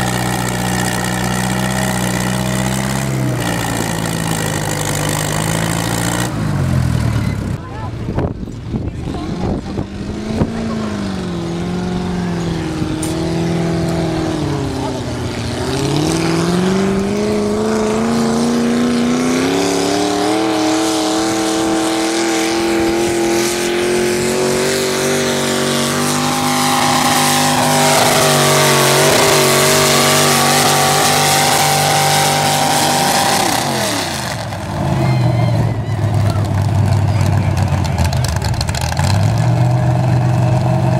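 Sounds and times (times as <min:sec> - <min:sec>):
tractor engine at full throttle: 0:00.0 - 0:40.9.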